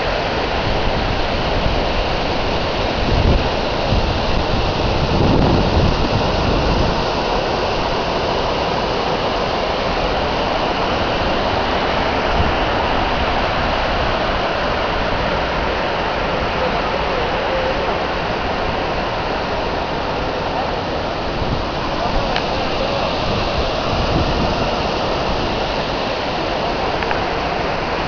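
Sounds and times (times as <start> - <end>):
low water rumbles: 0.0 - 28.0
stream and waterfall rushing: 0.0 - 28.0.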